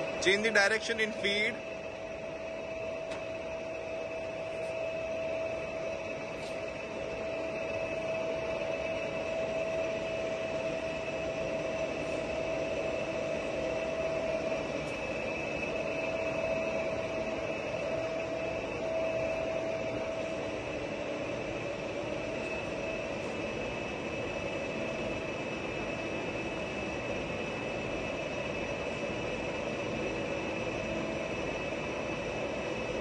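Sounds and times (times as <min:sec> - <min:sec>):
lathe running with whine: 0:00.0 - 0:33.0.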